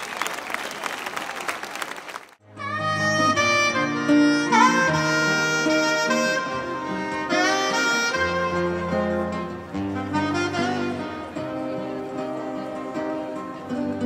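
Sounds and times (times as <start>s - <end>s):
lead melody: 2.4s - 14.0s
acoustic guitars: 2.6s - 14.0s.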